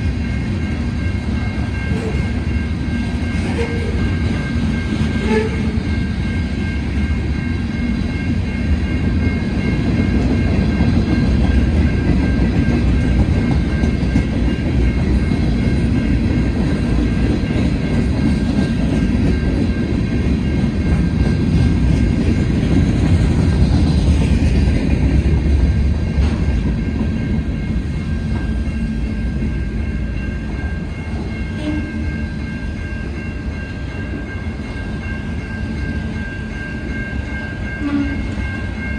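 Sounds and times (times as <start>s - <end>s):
high ringing tone: 0.0s - 22.6s, 25.7s - 38.9s
train wheels rumbling on rails: 0.0s - 38.9s.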